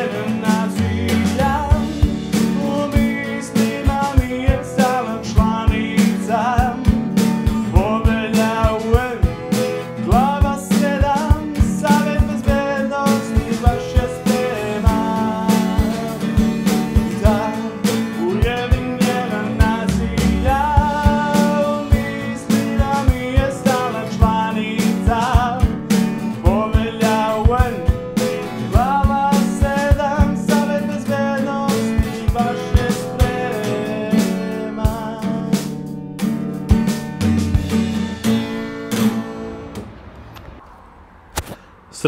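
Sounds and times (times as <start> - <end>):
man singing: 0.0 - 35.9
strummed acoustic guitar: 0.0 - 40.3.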